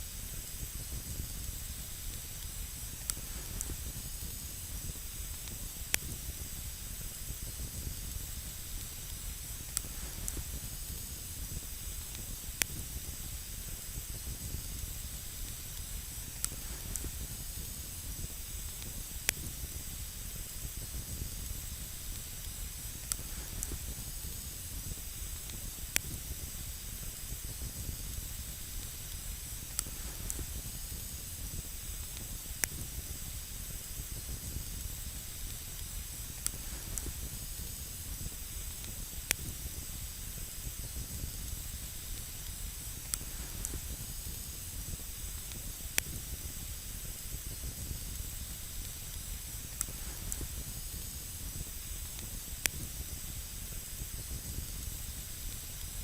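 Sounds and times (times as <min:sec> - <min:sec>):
campfire hissing and crackling: 0:00.0 - 0:56.0.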